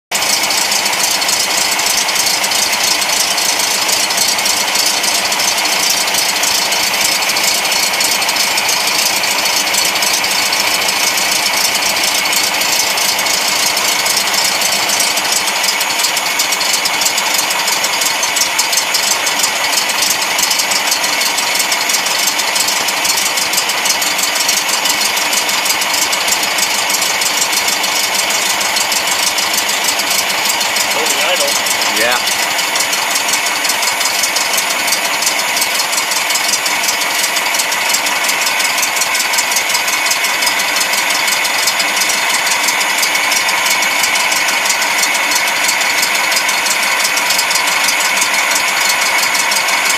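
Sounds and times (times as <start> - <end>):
car engine idling with clatter: 0.1 - 49.9.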